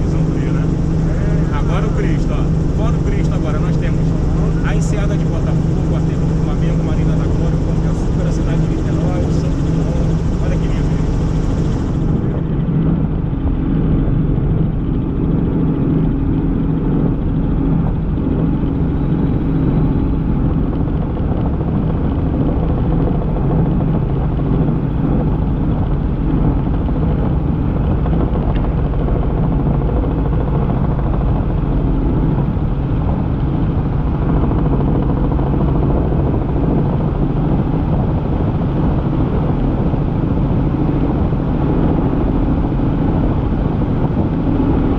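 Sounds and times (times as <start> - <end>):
helicopter drone inside cabin: 0.0 - 44.9.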